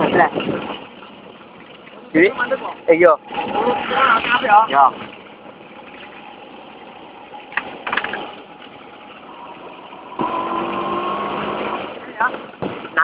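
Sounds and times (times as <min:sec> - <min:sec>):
road and wind noise: 0:00.0 - 0:13.0
scooter engines running: 0:00.0 - 0:13.0.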